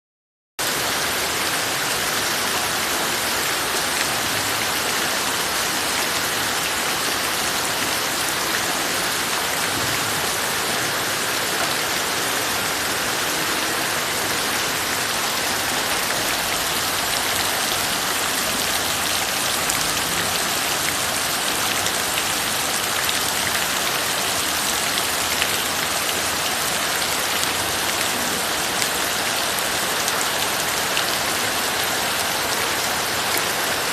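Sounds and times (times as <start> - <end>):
heavy rain falling: 0.6 - 33.9.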